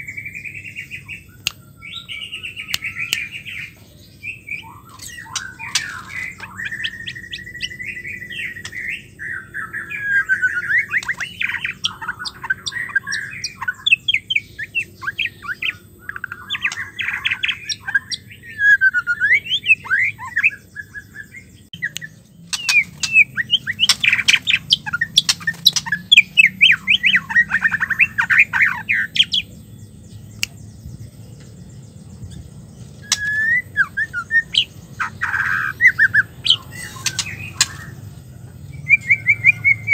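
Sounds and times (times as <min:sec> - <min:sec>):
bird singing whistles and chatter: 0:00.0 - 0:29.5, 0:32.3 - 0:38.1, 0:38.7 - 0:39.9.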